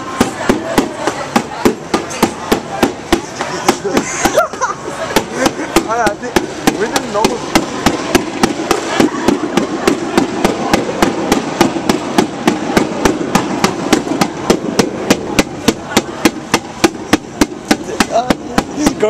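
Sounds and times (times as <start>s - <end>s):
fast percussion beat: 0.0s - 19.0s
voices of marching crowd: 0.0s - 19.0s.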